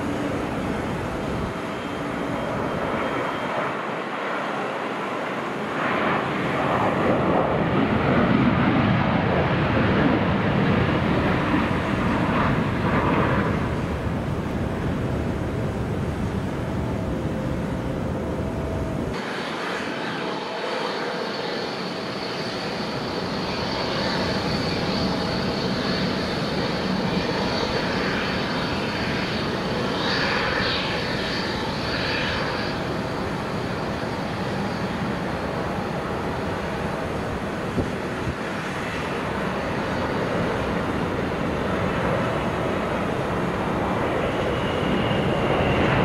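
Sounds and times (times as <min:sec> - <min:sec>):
high jet engine whine: 0:00.0 - 0:46.0
jet engines rushing: 0:00.0 - 0:46.0.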